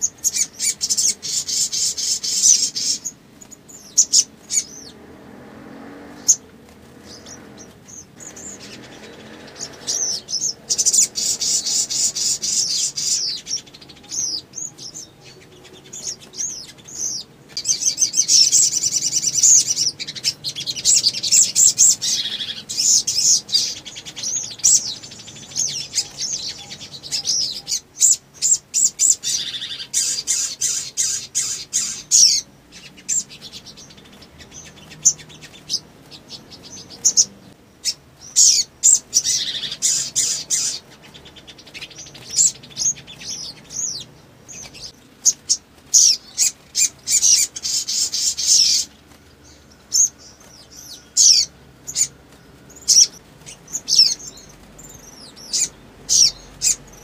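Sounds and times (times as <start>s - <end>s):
bird chirping and twittering: 0.0s - 57.0s.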